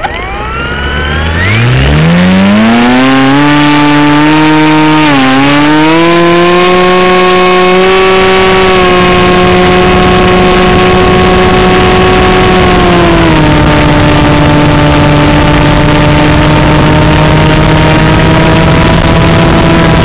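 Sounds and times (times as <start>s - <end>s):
electric motor propeller whine: 0.0s - 20.0s.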